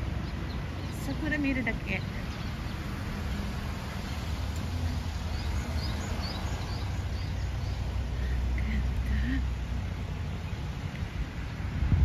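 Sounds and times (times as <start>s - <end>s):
small birds chirping: 0.0s - 11.7s
street background noise: 0.0s - 12.0s.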